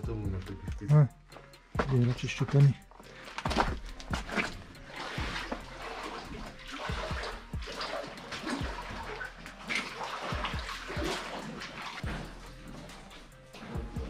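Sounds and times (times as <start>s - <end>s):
boots wading through water: 1.8s - 14.0s.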